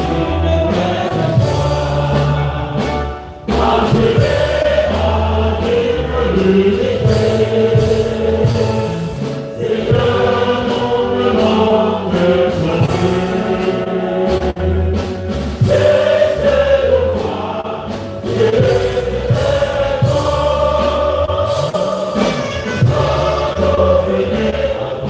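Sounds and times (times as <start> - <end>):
church choir singing a hymn: 0.0 - 25.0.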